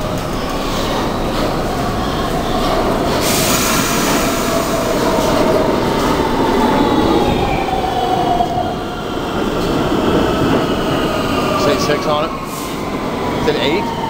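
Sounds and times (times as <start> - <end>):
subway train wheels rumbling: 0.0 - 14.0
train whining tones: 0.0 - 14.0.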